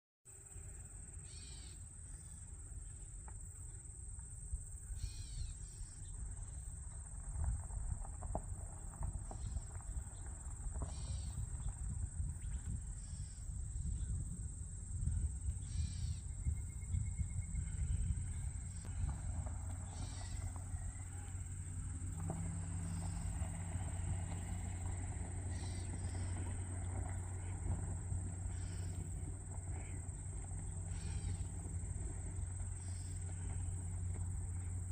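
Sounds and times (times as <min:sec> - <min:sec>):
low rumble: 0:04.0 - 0:34.9.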